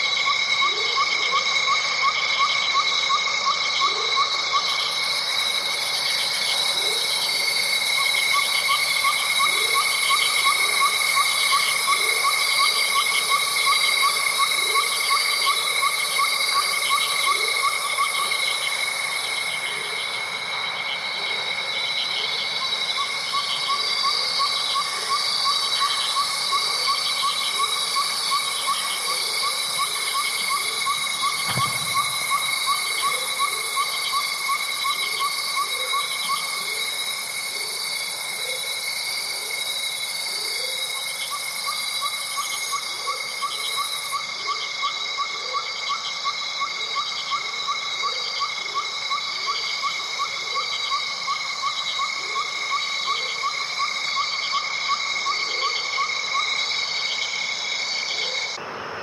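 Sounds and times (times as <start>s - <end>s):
fast pulsed frog call: 0.0s - 59.0s
insects trilling: 0.0s - 59.0s.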